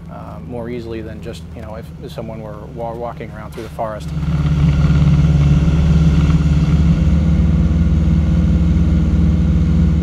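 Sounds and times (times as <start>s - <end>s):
propeller aircraft engine droning: 0.0s - 10.0s.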